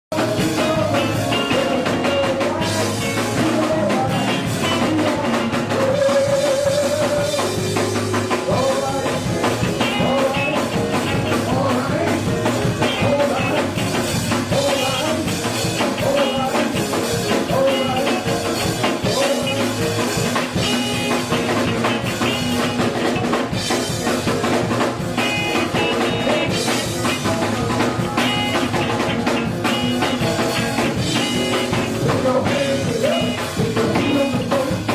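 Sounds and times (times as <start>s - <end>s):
band music: 0.1s - 34.9s
drum kit beat: 0.1s - 34.9s.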